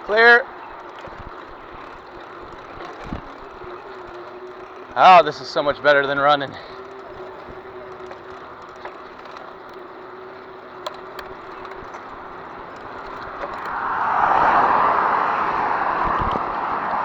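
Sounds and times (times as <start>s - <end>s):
bicycle tyres rolling: 0.0s - 17.0s.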